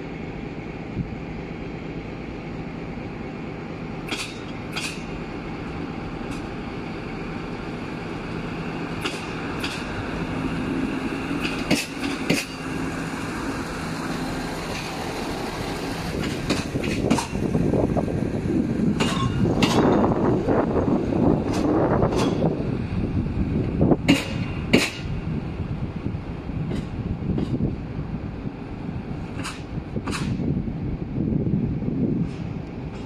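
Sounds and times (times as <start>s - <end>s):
train diesel engine droning: 0.0s - 33.0s
wheels rumbling on track: 0.0s - 33.0s.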